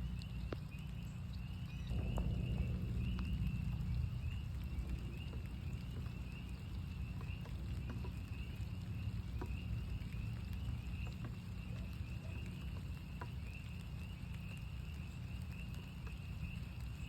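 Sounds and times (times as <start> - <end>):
frogs peeping in chorus: 0.0 - 17.0
raindrops ticking: 0.0 - 17.0
steady low rumble: 0.0 - 17.0.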